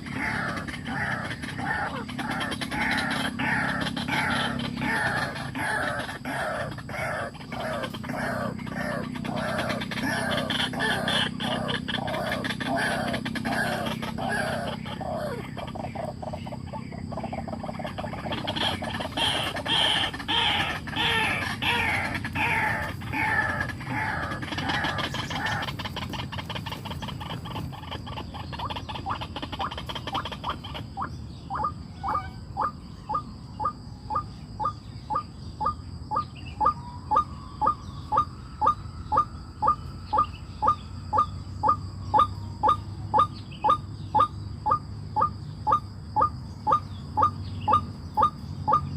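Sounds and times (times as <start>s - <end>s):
birds chirping: 0.0s - 48.9s
repeated short bird call: 0.0s - 48.9s.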